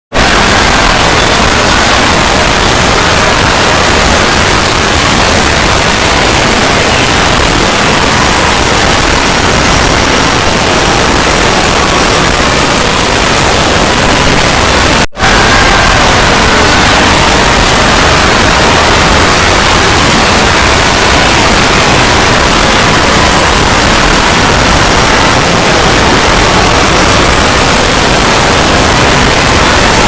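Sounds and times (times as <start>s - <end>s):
static-like hiss: 0.1s - 30.0s.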